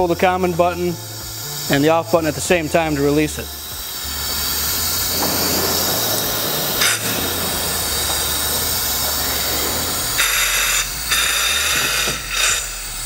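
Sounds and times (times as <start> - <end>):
compressed air bursts: 0.0 - 13.0
steady air hiss: 0.0 - 13.0.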